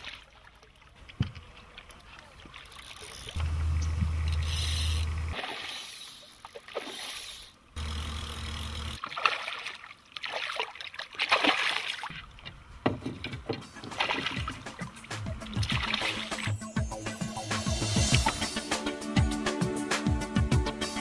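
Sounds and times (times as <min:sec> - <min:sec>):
water splashing: 0:00.0 - 0:07.8, 0:08.8 - 0:18.6.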